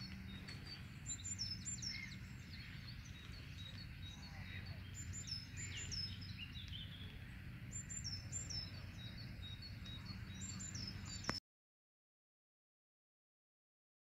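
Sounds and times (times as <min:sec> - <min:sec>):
small birds singing: 0:00.0 - 0:11.4.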